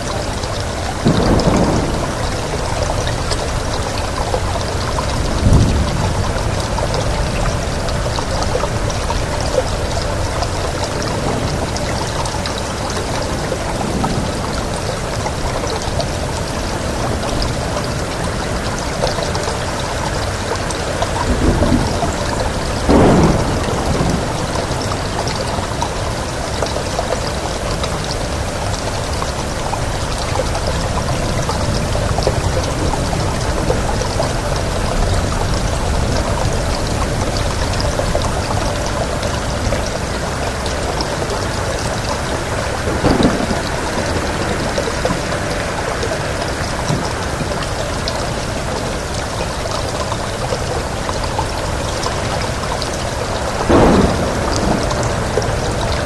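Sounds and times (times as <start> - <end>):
low thunder rumbles: 0.0 - 49.2, 51.7 - 56.0
heavy rain: 0.0 - 56.0.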